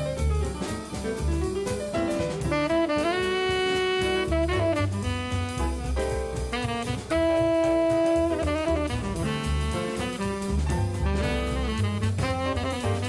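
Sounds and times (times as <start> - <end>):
jazzy music with bass and drums: 0.0 - 13.0.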